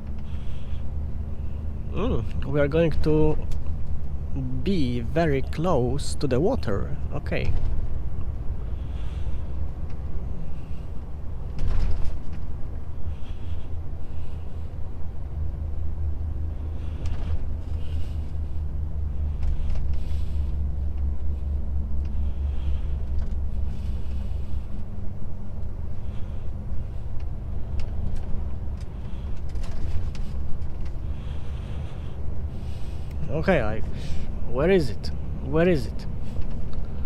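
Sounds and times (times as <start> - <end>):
truck diesel engine drone: 0.0 - 37.0.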